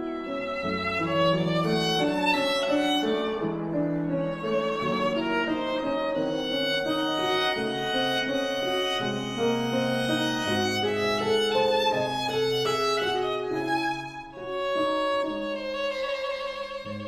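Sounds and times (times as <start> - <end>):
bowed strings melody: 0.0 - 17.0.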